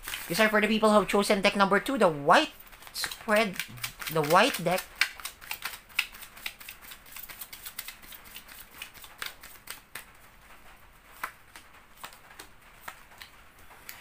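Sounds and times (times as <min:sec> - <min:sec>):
cards being shuffled: 0:00.0 - 0:00.6, 0:02.7 - 0:14.0.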